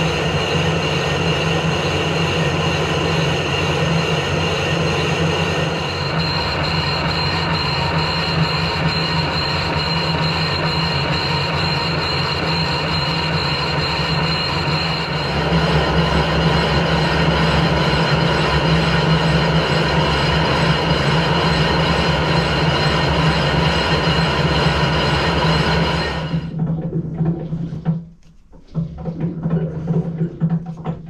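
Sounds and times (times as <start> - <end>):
lathe running with ringing tone: 0.0 - 26.6
machine hum: 0.0 - 31.0.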